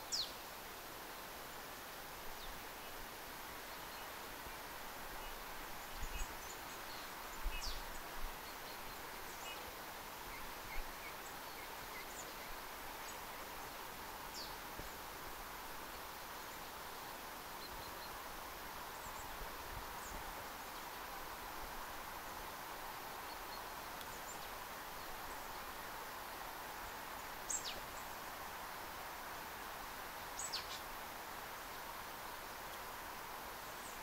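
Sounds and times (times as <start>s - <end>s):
steady forest hiss: 0.0s - 34.0s.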